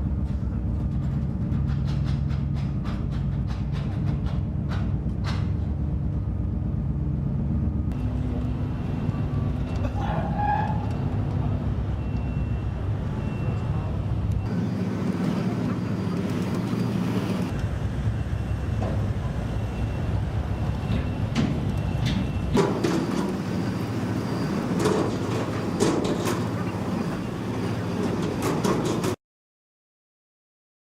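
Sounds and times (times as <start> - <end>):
low engine rumble: 0.0 - 29.2.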